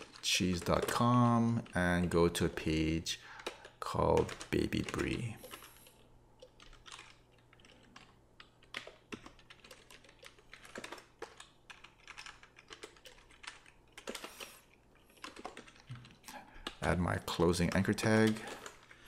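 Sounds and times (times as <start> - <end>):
computer keyboard keys clicking: 0.0 - 19.0.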